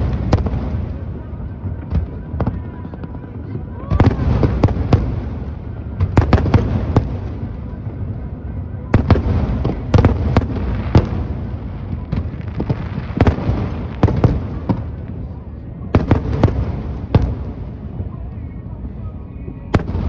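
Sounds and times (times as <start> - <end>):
fireworks bursting bangs: 0.0 - 18.4, 19.6 - 20.0.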